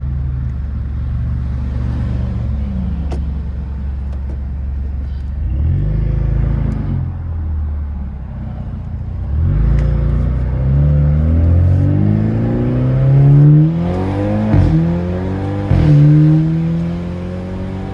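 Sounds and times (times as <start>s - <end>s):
car engine revving: 0.9s - 17.9s.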